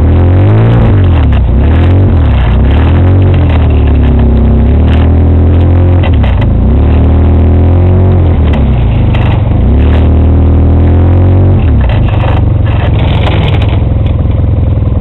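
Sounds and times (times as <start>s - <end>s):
engine revving up and down: 0.0s - 15.0s.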